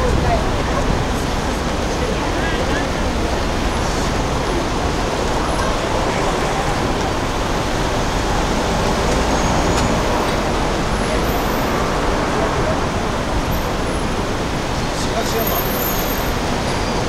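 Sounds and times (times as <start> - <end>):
cars passing on city street: 0.0 - 17.0.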